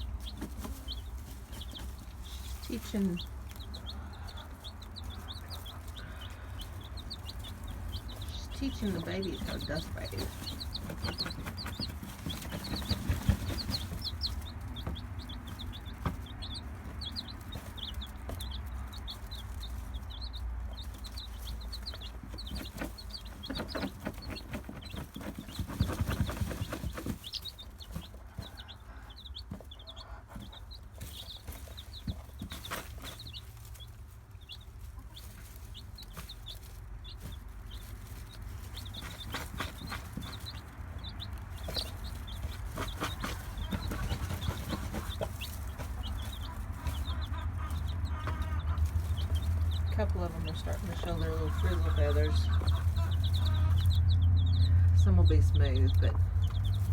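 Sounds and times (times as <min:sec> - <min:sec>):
chicks peeping: 0:00.0 - 0:56.9
hen clucking: 0:00.0 - 0:56.9.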